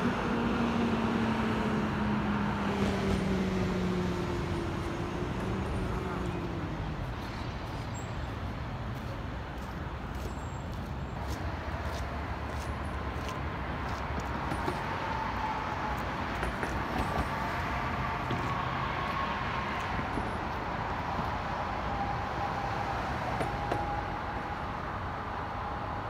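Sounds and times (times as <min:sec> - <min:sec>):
passing cars: 0:00.0 - 0:26.0.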